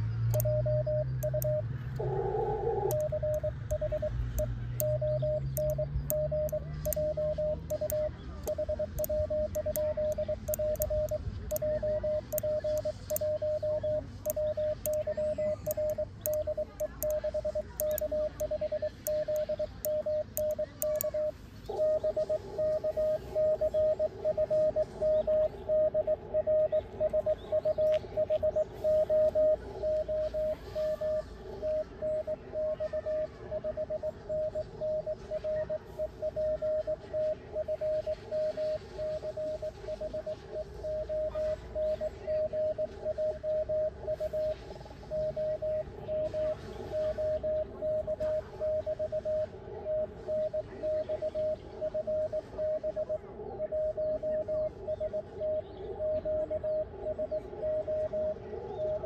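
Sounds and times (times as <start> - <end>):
morse code beeps: 0.0 - 59.0
radio hiss: 0.4 - 59.0.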